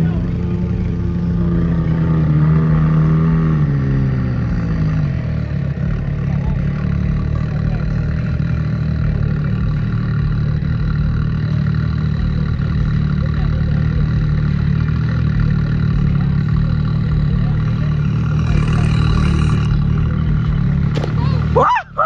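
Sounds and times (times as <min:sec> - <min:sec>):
engine running loudly: 0:00.0 - 0:22.0.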